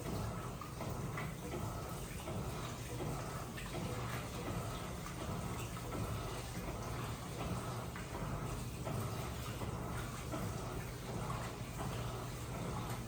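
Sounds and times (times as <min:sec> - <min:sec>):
washing machine motor hum: 0:00.0 - 0:13.0
water sloshing in drum: 0:00.0 - 0:13.0.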